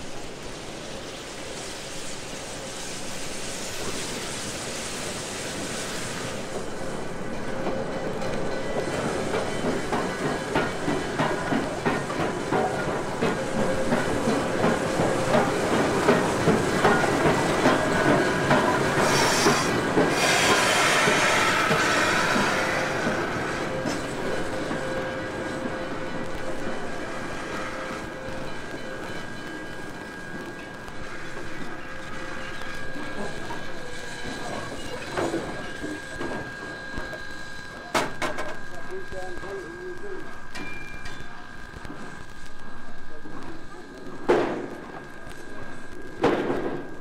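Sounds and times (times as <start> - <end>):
steam hiss: 0.0 - 47.0
steam train approaching: 0.0 - 47.0.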